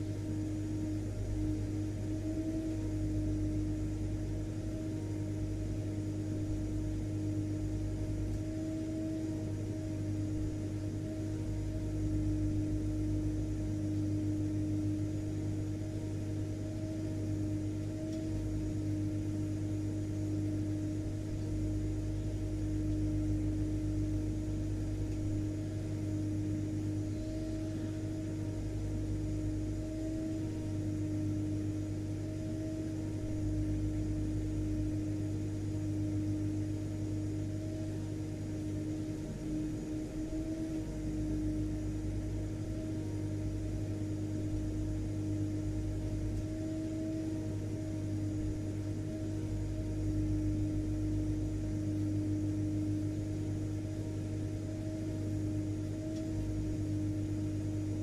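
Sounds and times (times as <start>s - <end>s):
vacuum cleaner running: 0.0s - 15.8s, 16.4s - 58.0s.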